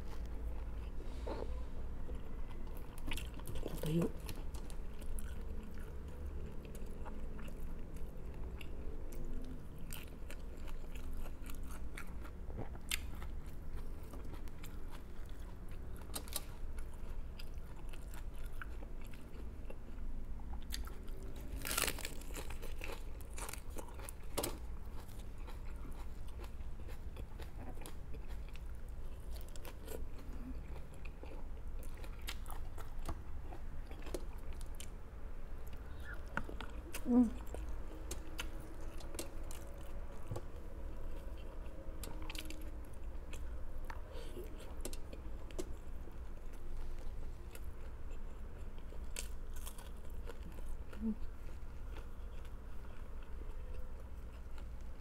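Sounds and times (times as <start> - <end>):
person chewing crisp food: 0.0 - 55.0.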